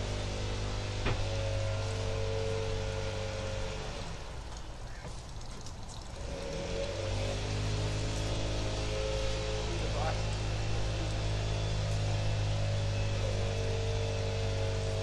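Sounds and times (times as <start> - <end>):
lawn equipment engine running: 0.0 - 4.6, 6.2 - 15.0.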